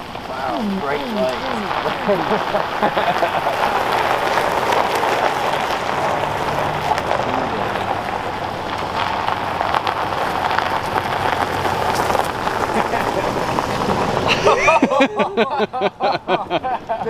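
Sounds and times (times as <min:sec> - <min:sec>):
truck engines running: 0:00.0 - 0:17.0
tyres crunching on gravel: 0:00.0 - 0:17.0.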